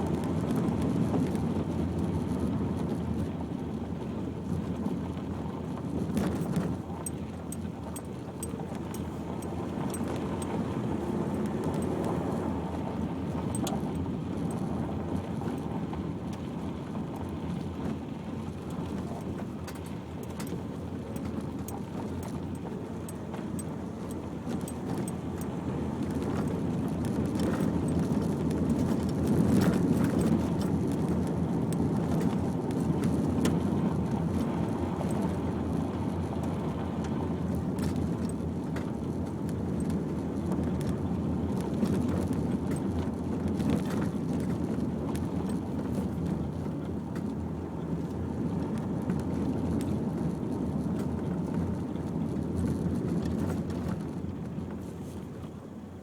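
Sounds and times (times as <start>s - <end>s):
car rumbling on rough lane: 0.0s - 56.0s.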